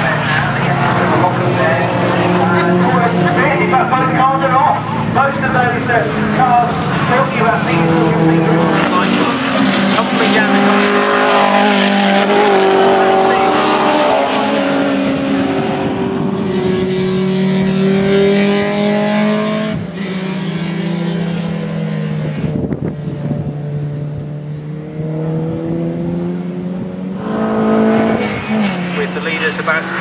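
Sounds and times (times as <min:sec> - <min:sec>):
racing car engines passing: 0:00.0 - 0:30.0.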